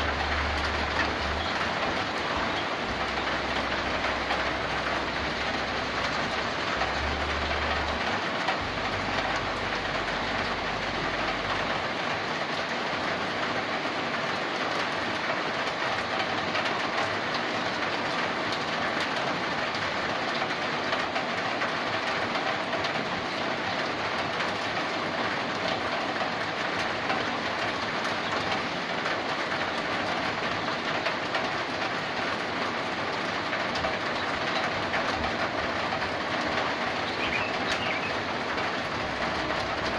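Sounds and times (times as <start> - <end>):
water splashing on a metal roof: 0.0 - 39.9.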